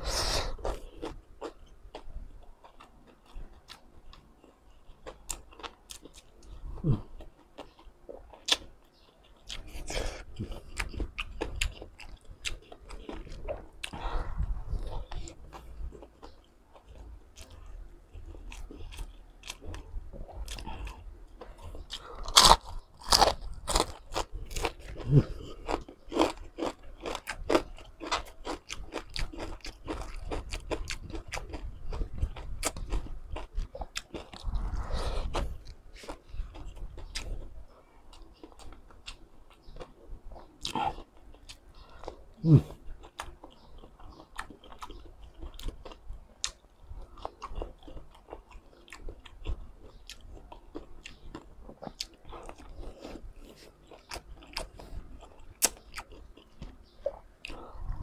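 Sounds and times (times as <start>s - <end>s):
crunchy food chewing: 0.4s - 58.0s.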